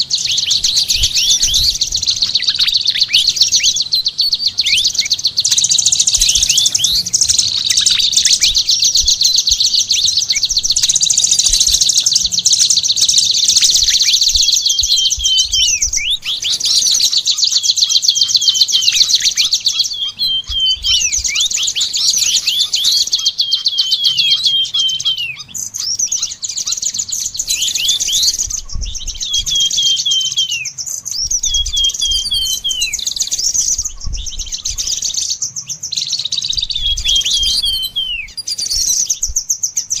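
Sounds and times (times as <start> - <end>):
songbirds singing: 0.0 - 40.0.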